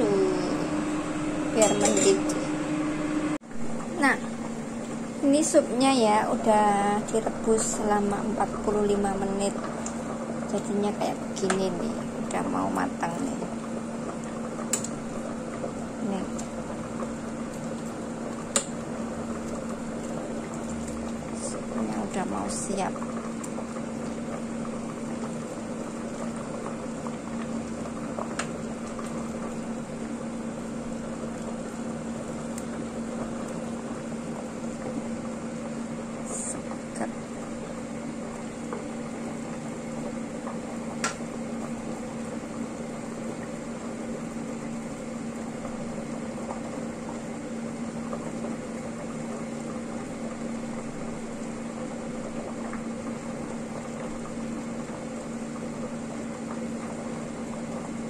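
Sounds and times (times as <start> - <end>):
soup bubbling in a pot: 2.3 - 58.0.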